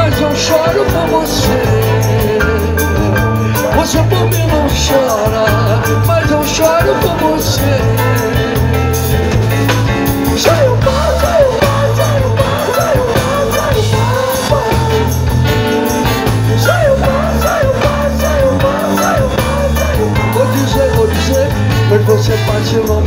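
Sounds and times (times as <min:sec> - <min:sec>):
band playing groove: 0:00.0 - 0:23.0
wavering lead melody: 0:00.0 - 0:23.0.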